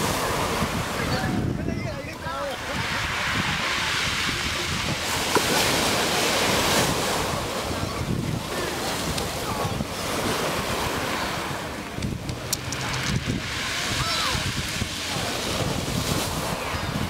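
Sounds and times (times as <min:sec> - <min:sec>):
waves washing over pebble beach: 0:00.0 - 0:17.0.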